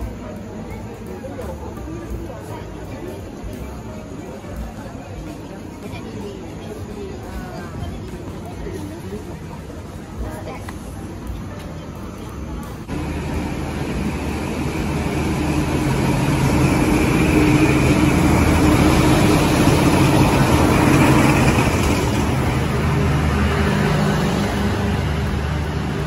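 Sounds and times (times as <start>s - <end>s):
road noise: 0.0s - 26.0s
vehicle engine hum: 5.0s - 26.0s.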